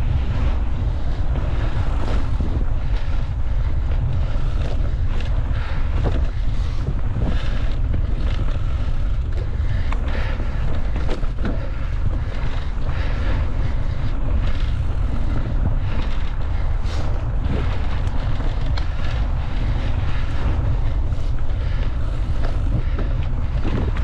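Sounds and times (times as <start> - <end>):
bike rattling and knocking: 0.0 - 24.0
wind rumbling on microphone: 0.0 - 24.0.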